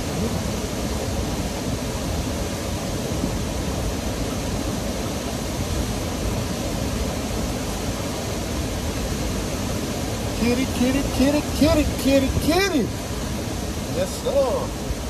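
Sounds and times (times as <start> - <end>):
river water rushing: 0.0 - 15.0
wind over microphone: 0.0 - 15.0.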